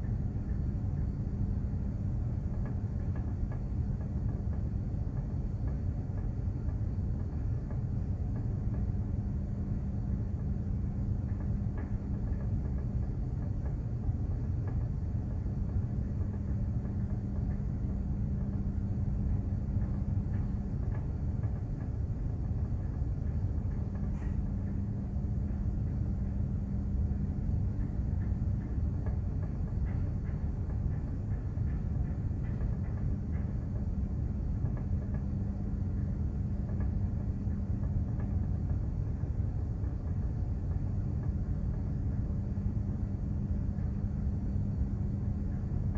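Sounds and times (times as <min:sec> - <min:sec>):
ship engine rumble: 0:00.0 - 0:45.9.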